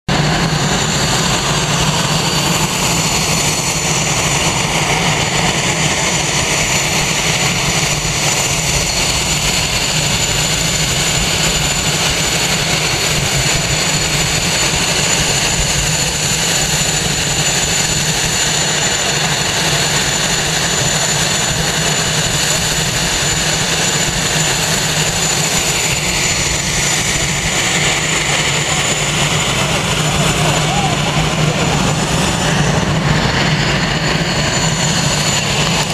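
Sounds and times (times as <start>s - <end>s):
jet engines idling: 0.1s - 35.9s.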